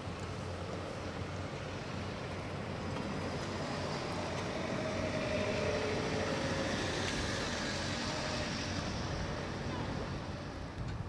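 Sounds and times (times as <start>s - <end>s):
distant engines rumbling: 0.0s - 11.0s.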